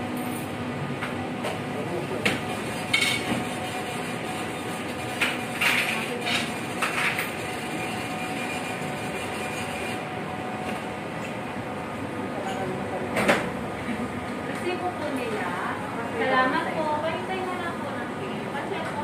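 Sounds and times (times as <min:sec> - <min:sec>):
room hum: 0:00.0 - 0:19.0.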